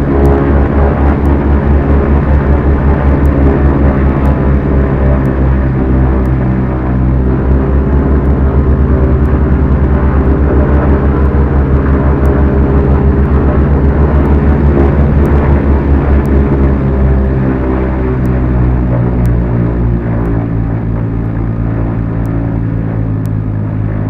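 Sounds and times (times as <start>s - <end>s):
propeller plane engines droning: 0.0s - 24.0s.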